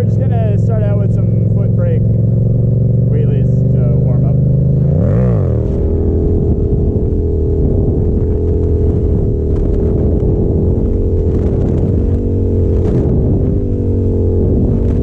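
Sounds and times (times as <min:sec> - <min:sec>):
motorcycle engine running steadily: 0:00.0 - 0:15.0.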